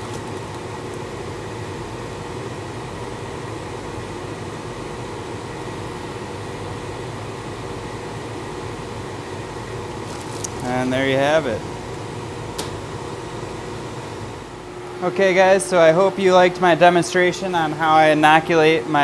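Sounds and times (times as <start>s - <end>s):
fan humming and hissing: 0.0s - 19.0s.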